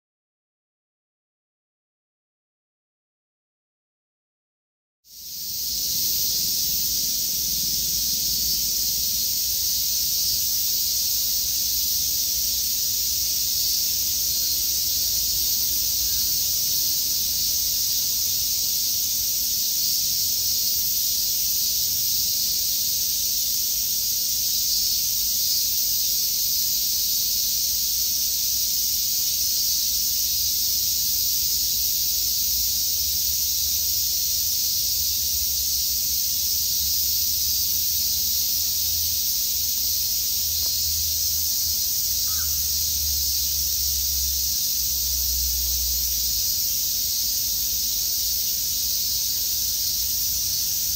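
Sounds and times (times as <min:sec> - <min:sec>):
cicada chorus: 0:05.1 - 0:50.9.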